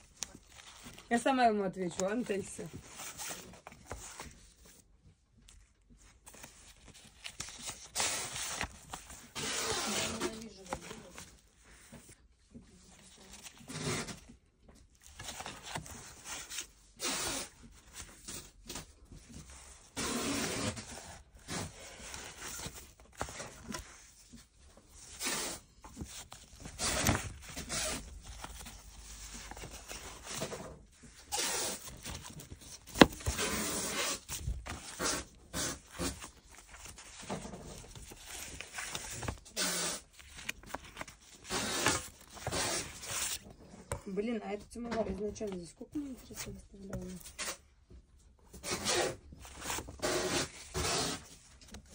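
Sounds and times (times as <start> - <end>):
paper record sleeves rustling: 0.0 - 44.0, 48.5 - 51.9.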